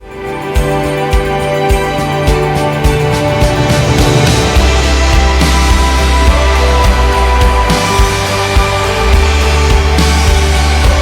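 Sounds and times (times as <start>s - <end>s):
instrumental music with low beat: 0.0s - 11.0s.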